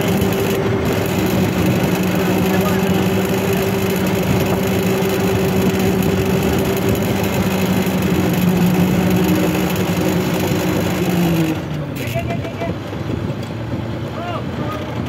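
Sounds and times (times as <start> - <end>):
boat engine running steadily: 0.0 - 15.0.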